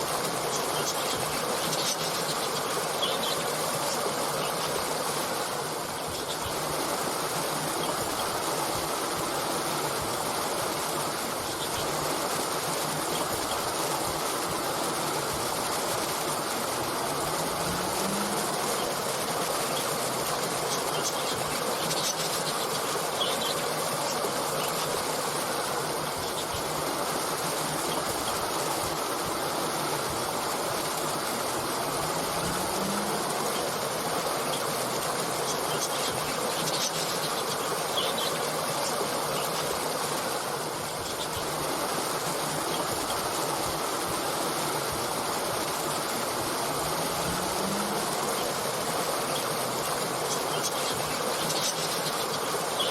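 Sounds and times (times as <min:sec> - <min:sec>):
flowing stream: 0:00.0 - 0:52.9.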